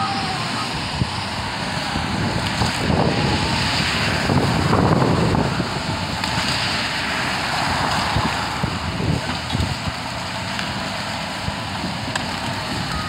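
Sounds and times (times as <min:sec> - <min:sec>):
car passing: 0:00.0 - 0:11.4
diesel engines of heavy machinery: 0:00.0 - 0:13.0.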